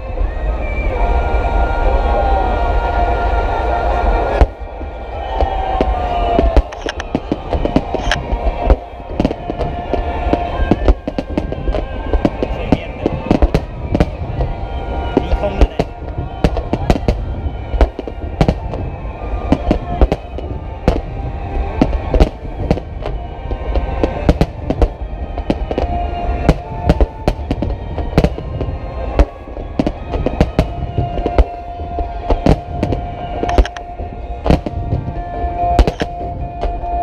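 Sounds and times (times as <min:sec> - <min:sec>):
fireworks bursts and crackles: 0:00.0 - 0:37.0
low rumble: 0:00.0 - 0:37.0
sharp fireworks bangs: 0:02.6 - 0:37.0.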